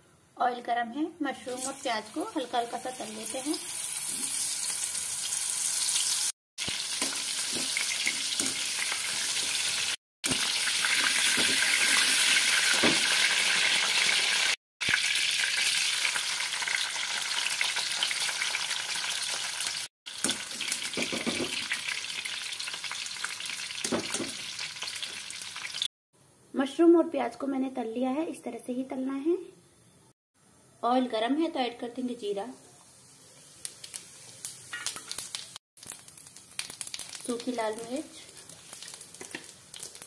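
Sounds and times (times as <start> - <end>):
food sizzling in hot oil: 1.3 - 25.9, 31.5 - 40.0.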